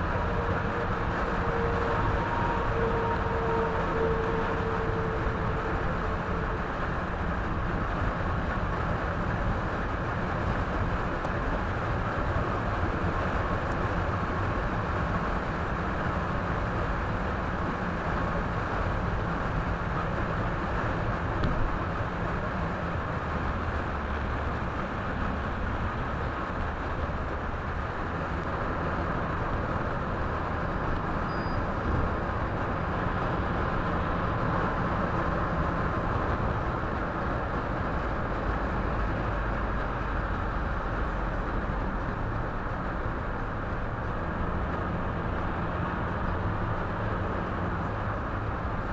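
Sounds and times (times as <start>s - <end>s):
low engine hum: 0.0s - 48.9s
road and tyre noise: 0.0s - 48.9s.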